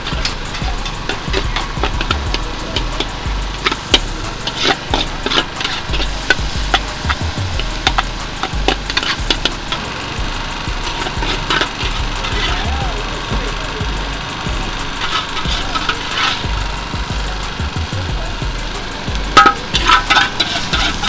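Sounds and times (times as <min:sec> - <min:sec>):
metal ladle scraping a wok: 0:00.0 - 0:12.6, 0:14.2 - 0:16.9, 0:18.8 - 0:21.0
steady sizzle: 0:00.0 - 0:21.0.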